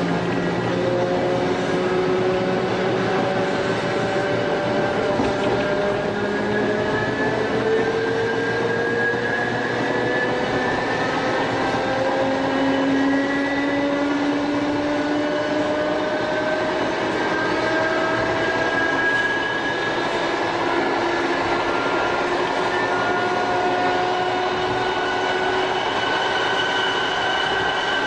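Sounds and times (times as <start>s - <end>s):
electric train motor whine: 0.0s - 28.0s
wheels running on track: 0.0s - 28.0s.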